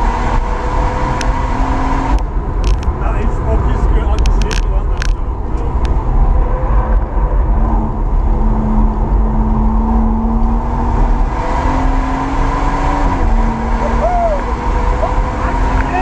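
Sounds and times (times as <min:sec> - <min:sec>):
car engine accelerating: 0:00.0 - 0:16.0
road and tyre rumble: 0:00.0 - 0:16.0.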